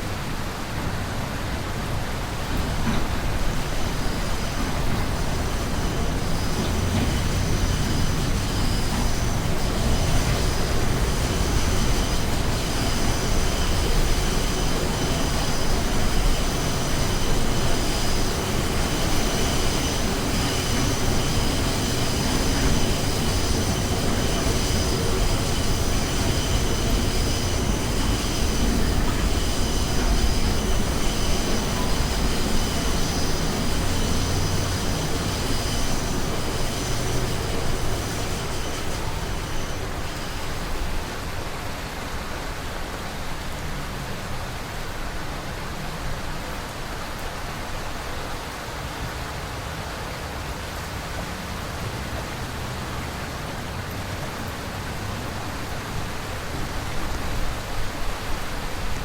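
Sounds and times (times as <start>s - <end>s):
subway train rumbling on track: 0.0s - 59.0s.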